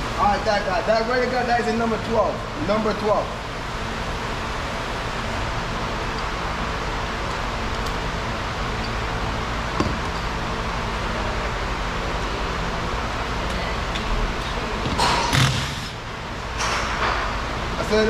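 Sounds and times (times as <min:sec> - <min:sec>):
fan rushing with low hum: 0:00.0 - 0:18.0.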